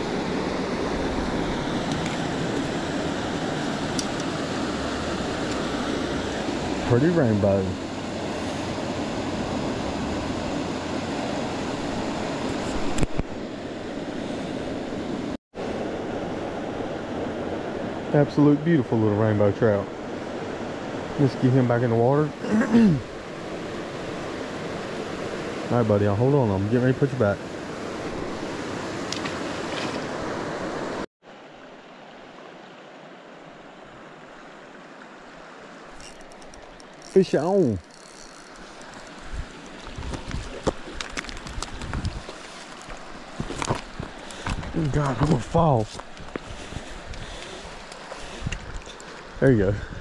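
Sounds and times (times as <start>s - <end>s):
flowing creek water: 0.0s - 50.0s.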